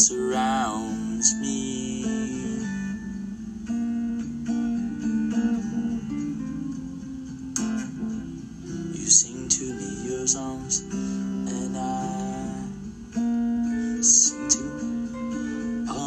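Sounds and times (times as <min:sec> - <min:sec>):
guitar picked notes: 0:00.0 - 0:16.0
strummed guitar chord: 0:00.0 - 0:16.0.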